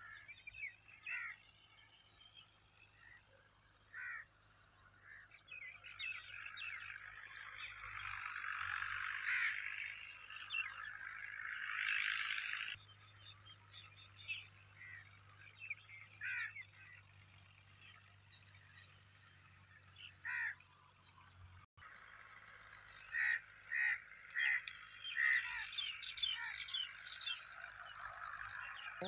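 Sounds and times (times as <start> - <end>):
birds chattering and chirping: 0.0 - 29.0.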